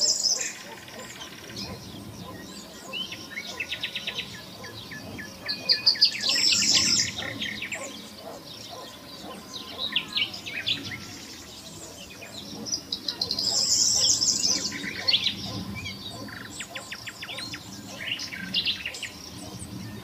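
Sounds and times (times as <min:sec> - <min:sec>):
bird trill: 0:00.0 - 0:20.0
songbirds chirping: 0:00.0 - 0:20.0.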